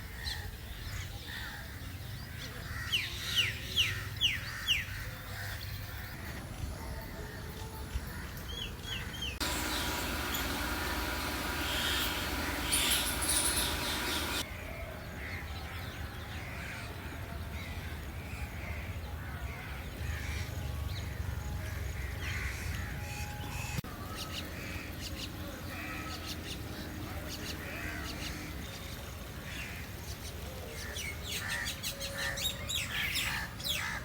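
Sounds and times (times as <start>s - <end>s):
birds calling: 2.4s - 34.0s.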